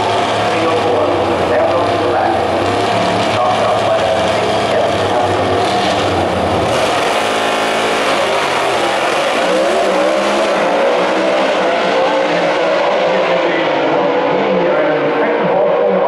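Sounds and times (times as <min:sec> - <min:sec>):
drag racing cars at full throttle: 0:00.0 - 0:16.0.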